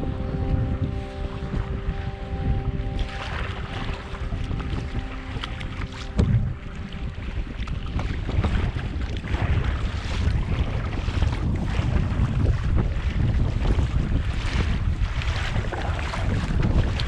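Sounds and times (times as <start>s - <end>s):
water around a kayak: 0.0s - 17.0s
wind buffeting microphone: 0.0s - 17.0s.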